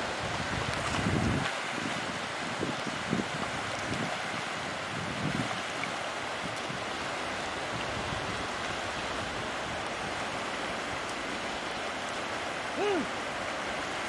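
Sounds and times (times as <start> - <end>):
sea water rushing around legs: 0.0 - 14.0.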